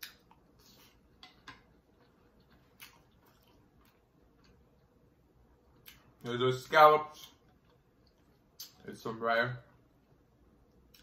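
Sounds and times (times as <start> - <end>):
man chewing food: 0.0 - 6.3, 7.1 - 8.9, 9.7 - 11.0.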